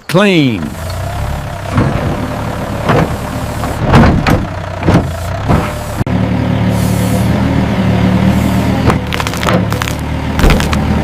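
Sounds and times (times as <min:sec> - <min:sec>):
excavator engine running: 0:00.1 - 0:11.0.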